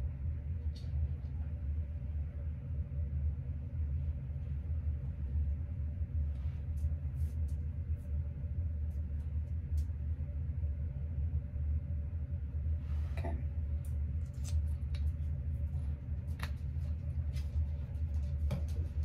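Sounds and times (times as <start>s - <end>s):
low rumbling hum: 0.0s - 19.0s.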